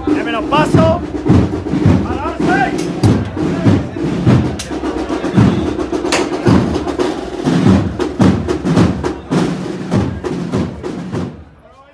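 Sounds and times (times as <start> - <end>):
band playing a march: 0.0 - 11.6
drums striking: 0.0 - 11.6.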